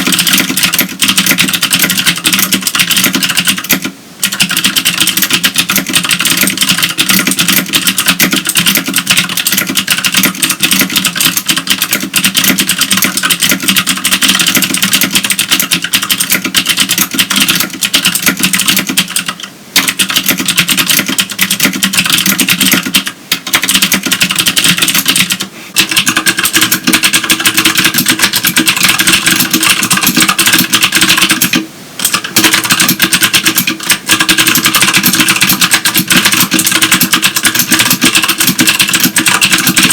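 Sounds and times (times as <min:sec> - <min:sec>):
clicky mechanical keyboard typing: 0:00.0 - 0:39.9.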